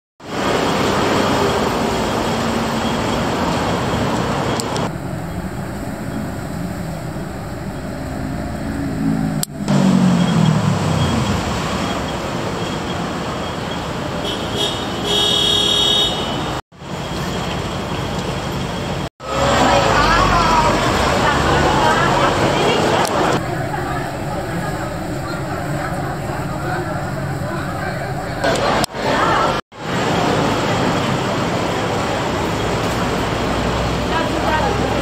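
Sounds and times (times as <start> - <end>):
vehicle passing: 0.2 - 13.2, 18.4 - 35.0
road traffic noise: 0.2 - 35.0.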